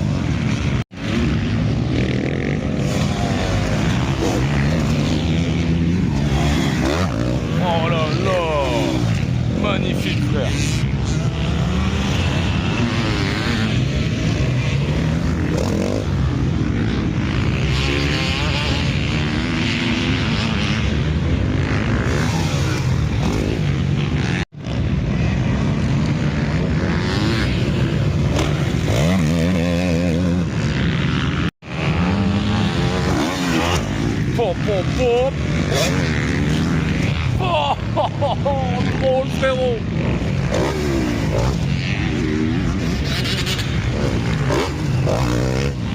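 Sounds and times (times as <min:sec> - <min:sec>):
motocross bike engines revving: 0:00.0 - 0:45.9.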